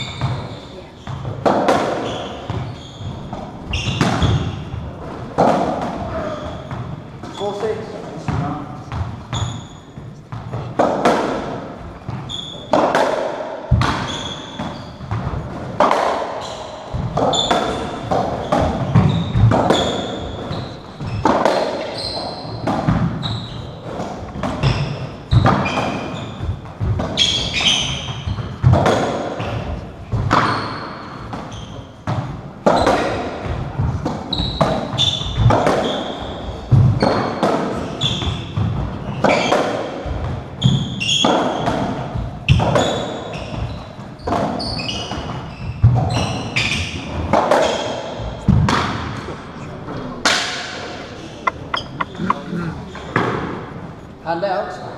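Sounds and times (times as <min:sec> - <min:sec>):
shoes squeaking on floor: 0:00.0 - 0:04.9, 0:05.9 - 0:10.8, 0:11.9 - 0:13.0, 0:13.7 - 0:33.1, 0:34.2 - 0:54.0.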